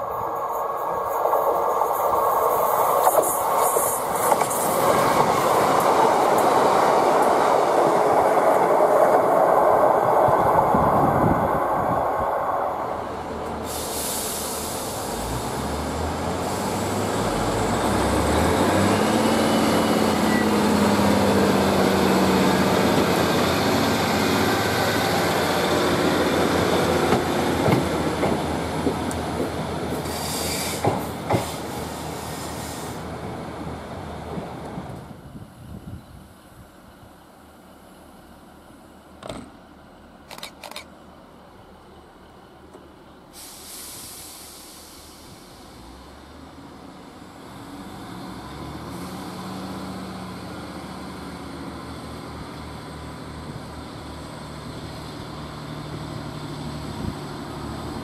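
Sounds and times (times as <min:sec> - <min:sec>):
train diesel engines revving: 0:01.6 - 0:34.3, 0:43.0 - 0:58.0.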